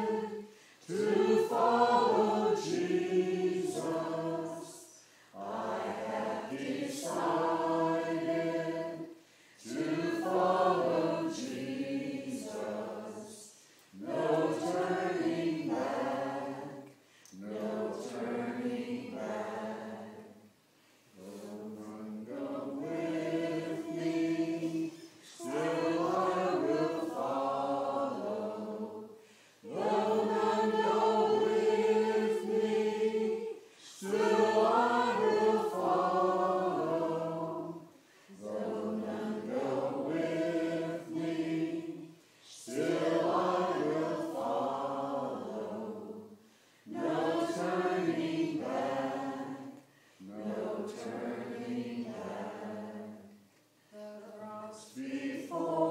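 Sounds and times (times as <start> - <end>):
choir singing unaccompanied: 0.0 - 20.5, 21.1 - 55.9.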